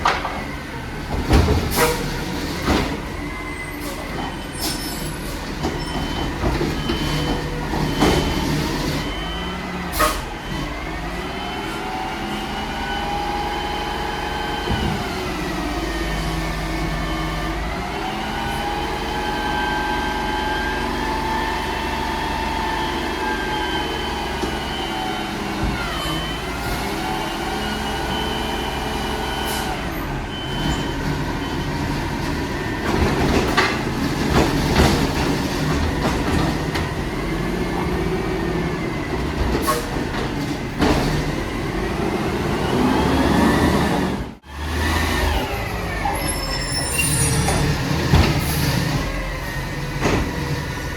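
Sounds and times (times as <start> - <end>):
garbage truck diesel engine: 0.0 - 50.9.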